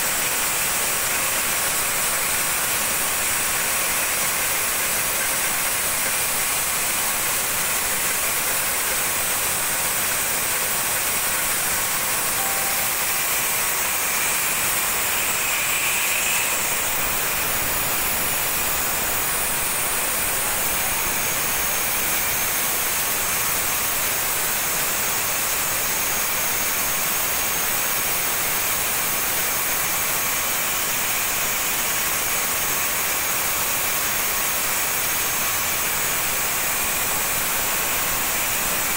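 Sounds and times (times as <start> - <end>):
portable sawmill running: 0.0 - 38.9.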